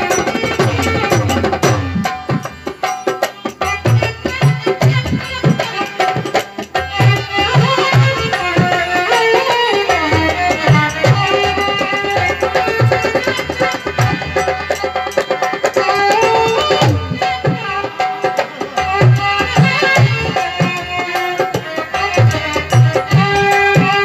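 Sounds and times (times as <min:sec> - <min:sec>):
hand drum beat: 0:00.0 - 0:24.0
harmonium melody: 0:00.0 - 0:24.0.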